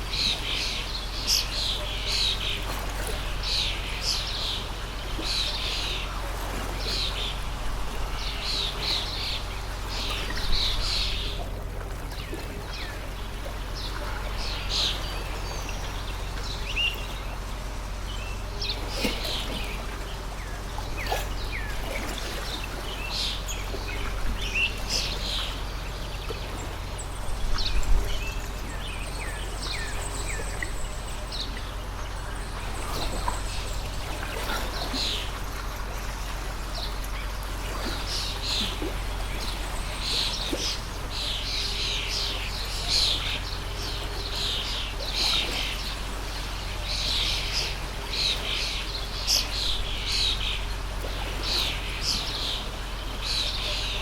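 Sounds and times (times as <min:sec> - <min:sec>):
constant low hum: 0:00.0 - 0:54.0
small birds chirping: 0:00.0 - 0:54.0
stream flowing: 0:00.0 - 0:54.0.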